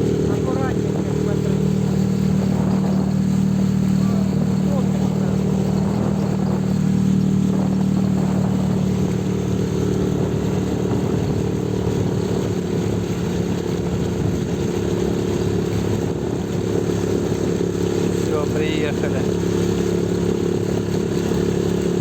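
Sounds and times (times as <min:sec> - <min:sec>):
boat motor droning: 0:00.0 - 0:22.0.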